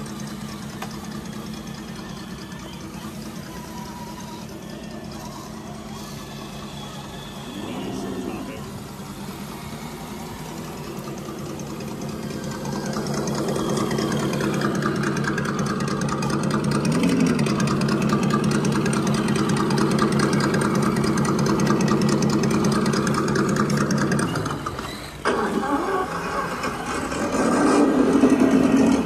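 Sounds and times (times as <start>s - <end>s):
toy truck motor whine: 0.0s - 29.0s.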